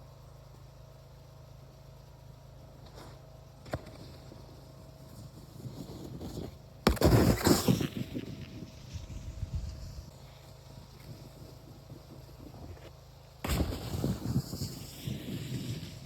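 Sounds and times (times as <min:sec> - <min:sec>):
board scraping and crunching snow: 0:02.8 - 0:16.0
snowboard sliding over snow: 0:02.8 - 0:16.0.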